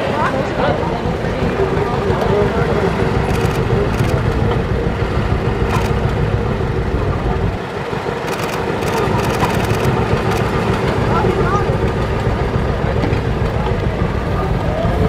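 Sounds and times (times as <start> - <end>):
tractor engine idling: 0.5 - 15.0.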